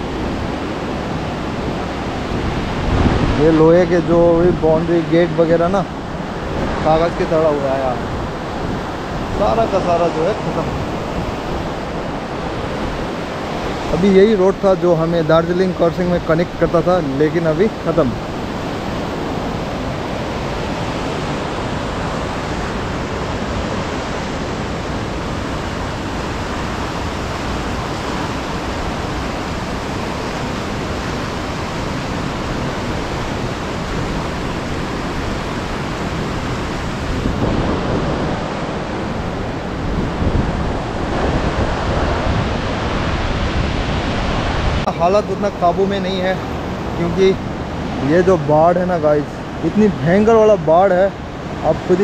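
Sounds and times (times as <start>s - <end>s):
fast-flowing river rushing: 0.0s - 52.0s.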